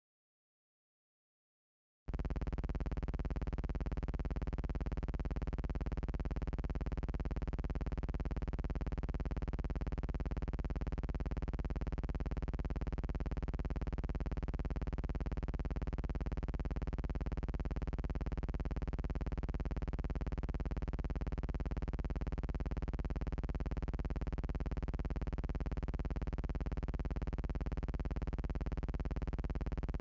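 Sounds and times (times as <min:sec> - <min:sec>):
steady buzzing hum: 0:02.1 - 0:30.0.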